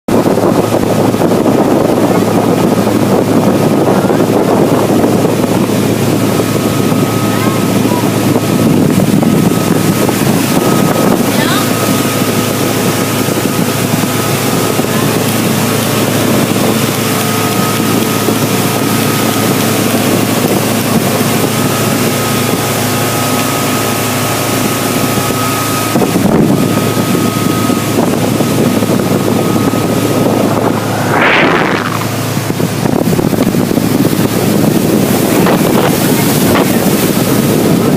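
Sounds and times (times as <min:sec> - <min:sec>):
motorboat engine running: 0:00.1 - 0:37.9
rushing water: 0:00.1 - 0:37.9
wind on microphone: 0:00.1 - 0:37.9.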